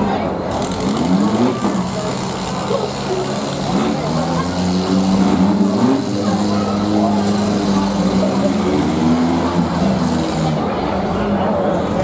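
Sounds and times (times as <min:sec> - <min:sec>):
car engines running hard: 0:00.0 - 0:12.0.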